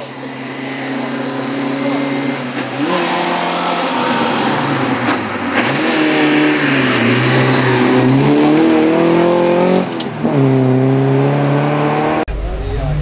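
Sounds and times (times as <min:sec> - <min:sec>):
car engine pulling hard: 0:00.0 - 0:13.0.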